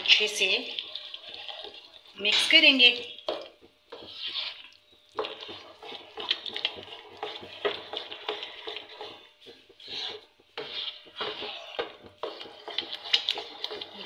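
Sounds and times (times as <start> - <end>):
wooden spoon stirring porridge: 0.0 - 14.0.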